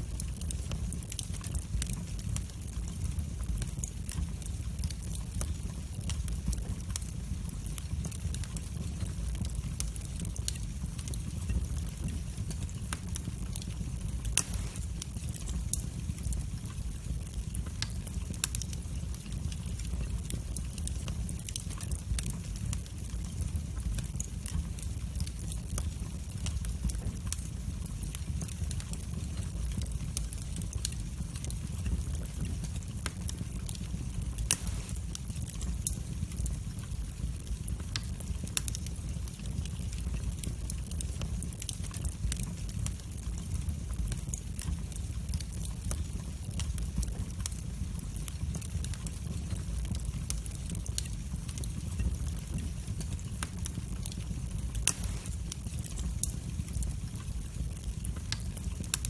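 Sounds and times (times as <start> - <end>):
fire flames rumbling: 0.0 - 59.0
wood fire crackles and pops: 0.0 - 59.0.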